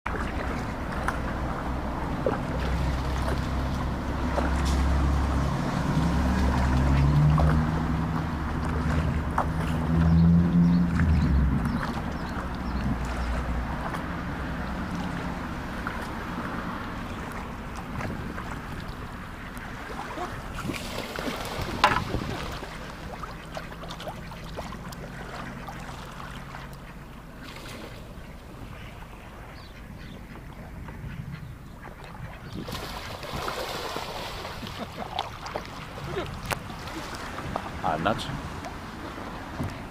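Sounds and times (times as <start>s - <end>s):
wind rumbling on microphone: 0.1s - 25.6s, 28.0s - 39.9s
paddle splashing water: 0.1s - 39.9s.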